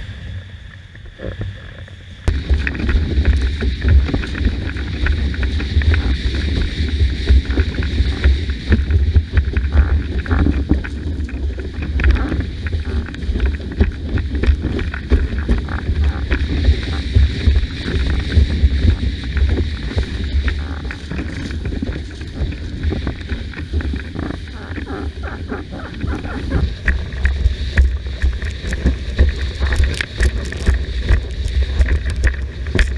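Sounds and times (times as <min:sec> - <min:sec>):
wind buffeting microphone: 0:00.0 - 0:32.9
board splashing through water: 0:02.3 - 0:32.9.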